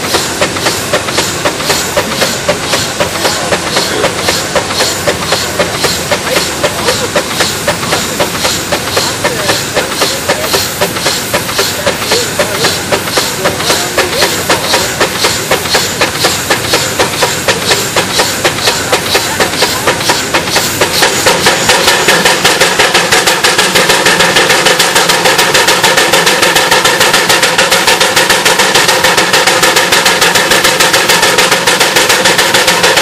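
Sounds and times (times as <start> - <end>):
steady mechanical hum: 0.0 - 33.0
steam engine exhaust chuffing: 0.0 - 33.0.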